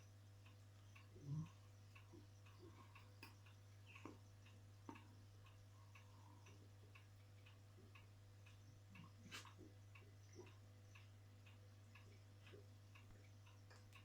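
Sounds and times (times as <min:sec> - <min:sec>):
light ticks and clicks: 0:00.0 - 0:14.0
steady low hum: 0:00.0 - 0:14.0.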